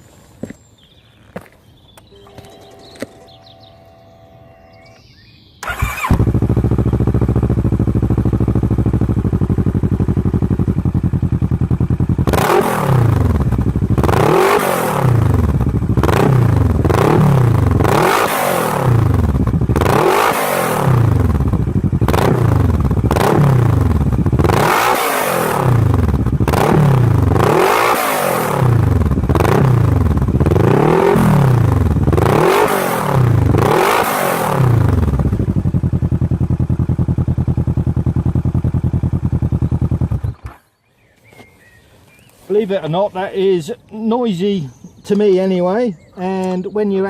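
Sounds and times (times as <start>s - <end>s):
motorcycle engine starting and idling: 1.9s - 40.8s
motorcycle engine revving: 2.1s - 40.8s.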